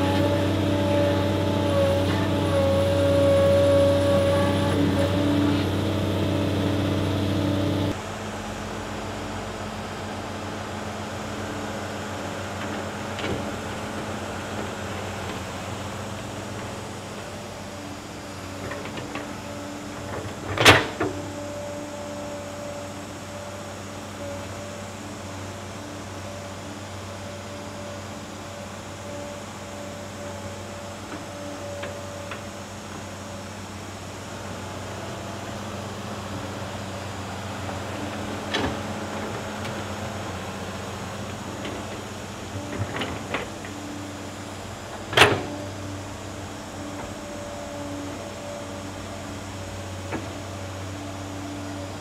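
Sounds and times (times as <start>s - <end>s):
excavator diesel engine running: 0.0s - 52.0s
hydraulic whine: 0.0s - 52.0s.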